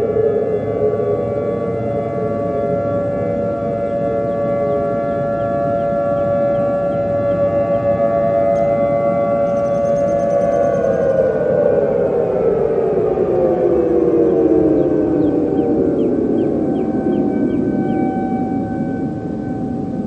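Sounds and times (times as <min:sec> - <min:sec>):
warning siren wailing: 0:00.0 - 0:20.0.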